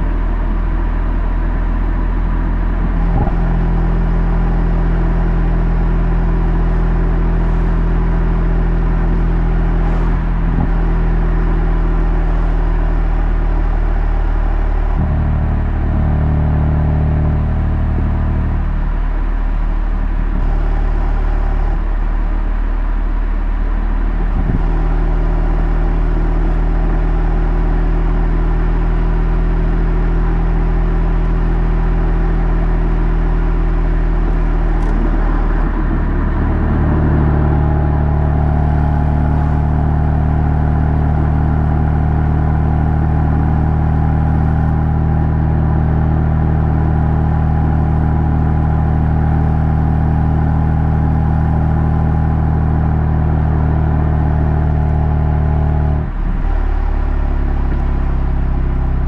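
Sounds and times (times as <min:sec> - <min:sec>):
car engine and exhaust droning: 0:00.0 - 0:59.0.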